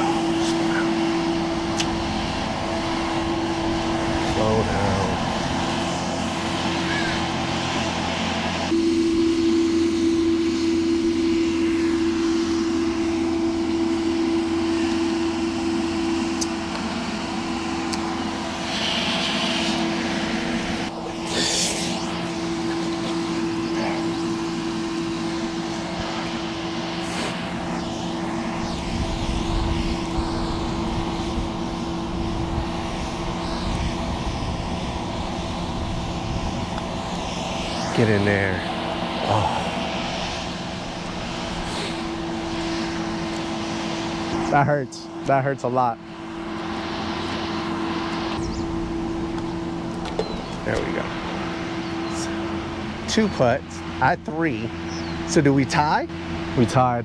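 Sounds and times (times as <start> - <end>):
steady motor hum: 0.0 - 57.0.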